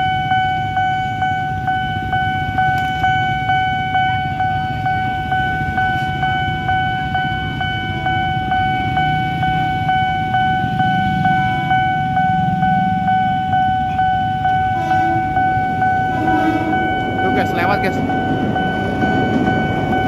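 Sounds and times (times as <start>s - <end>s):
level crossing alarm bell: 0.0s - 20.0s
motorbikes and cars idling: 0.0s - 20.0s.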